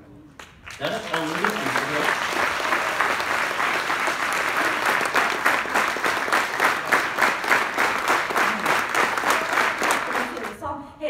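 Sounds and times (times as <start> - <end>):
audience clapping in rhythm: 0.3 - 10.6.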